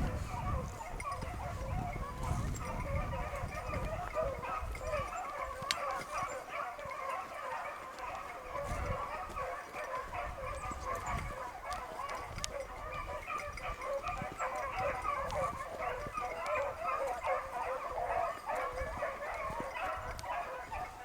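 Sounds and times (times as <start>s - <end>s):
dogs baying: 0.0s - 21.0s.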